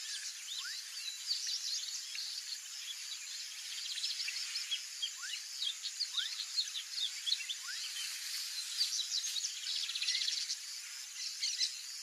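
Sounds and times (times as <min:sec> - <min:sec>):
bird singing fast twitter: 0:00.0 - 0:10.6
high buzz of insects: 0:00.0 - 0:12.0.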